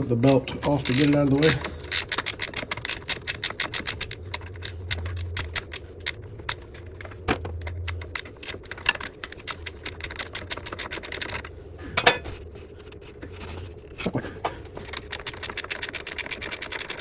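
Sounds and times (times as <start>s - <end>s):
ratcheting wrench clicking: 0.0s - 11.5s, 14.8s - 17.0s.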